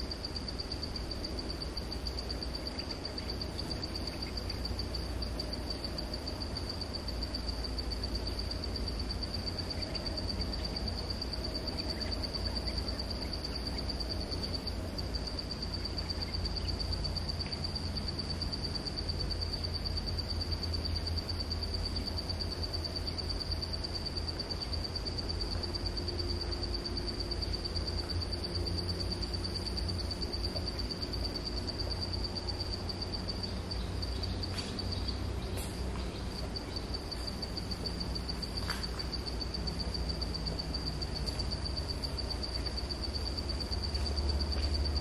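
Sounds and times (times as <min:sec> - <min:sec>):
insect high-pitched drone: 0:00.0 - 0:45.0
low background rumble: 0:00.0 - 0:45.0.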